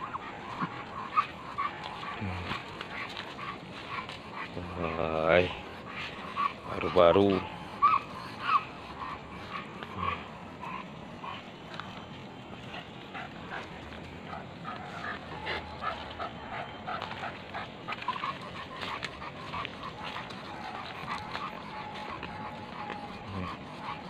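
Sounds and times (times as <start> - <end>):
dogs sniffing: 0.0 - 24.0
dogs whining: 0.0 - 24.0
feet rustling through dry leaves: 0.0 - 24.0.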